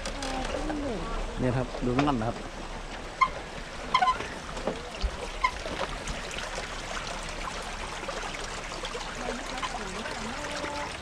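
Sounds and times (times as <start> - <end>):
water trickling in a pool: 0.0 - 11.0.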